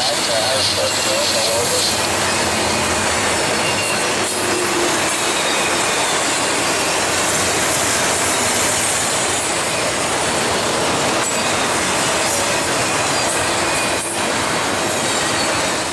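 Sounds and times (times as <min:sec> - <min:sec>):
train wheels rushing on rail: 0:00.0 - 0:15.9.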